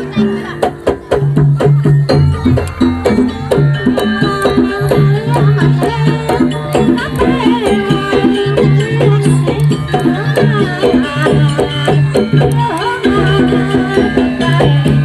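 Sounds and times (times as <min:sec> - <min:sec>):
gong-chime percussion: 0:00.0 - 0:15.0
hand drums: 0:00.0 - 0:15.0.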